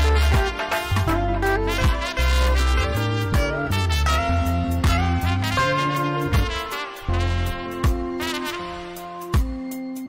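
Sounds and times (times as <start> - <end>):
bass line of long held notes: 0.0 - 9.0
brass band music: 0.0 - 9.6.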